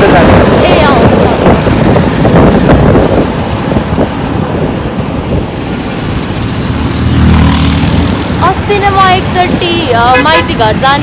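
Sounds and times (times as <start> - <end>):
road noise: 0.0 - 11.0
scooter engine: 0.0 - 11.0
wind buffeting microphone: 0.0 - 11.0.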